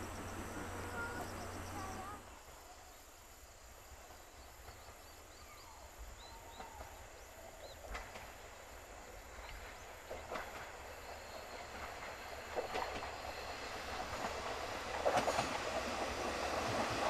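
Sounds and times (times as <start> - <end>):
distant train rumble: 0.0 - 17.0
steady high hiss: 0.0 - 17.0.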